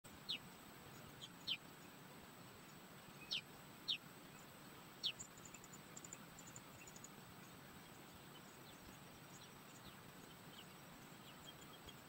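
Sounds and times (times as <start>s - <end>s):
bird chirping: 0.1s - 12.0s.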